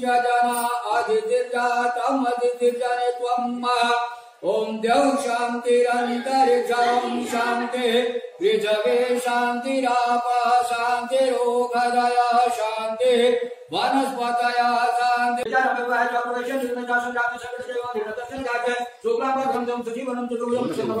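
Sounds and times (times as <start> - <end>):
person chanting devotional verses: 0.0 - 21.0.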